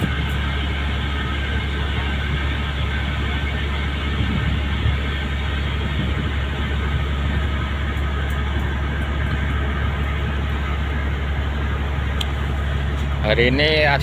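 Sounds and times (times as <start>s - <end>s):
ship engine droning: 0.0s - 14.0s.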